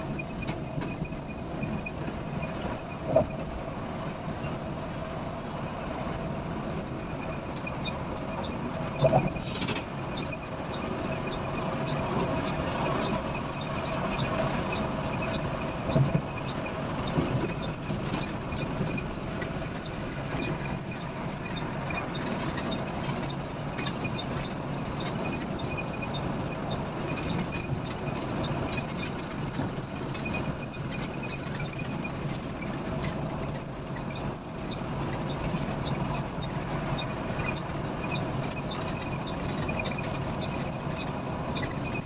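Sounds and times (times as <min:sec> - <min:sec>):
bus engine and road noise: 0:00.0 - 0:42.0.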